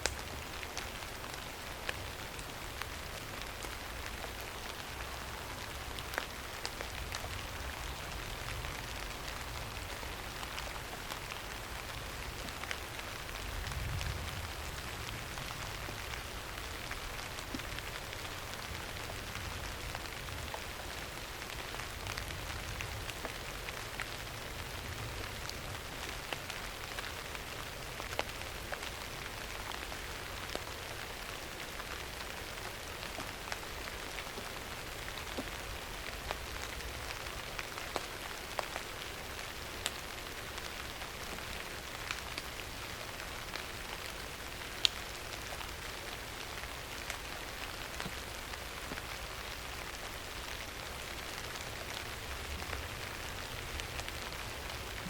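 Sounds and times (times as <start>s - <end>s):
raindrops pattering on hard surface: 0.0s - 55.0s
steady rain hiss: 0.0s - 55.0s.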